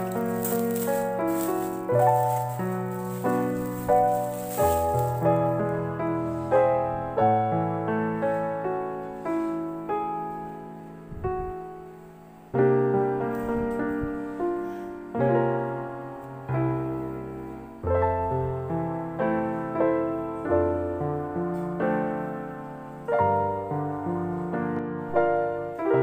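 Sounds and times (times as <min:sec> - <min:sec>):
gentle piano tune: 0:00.0 - 0:26.0.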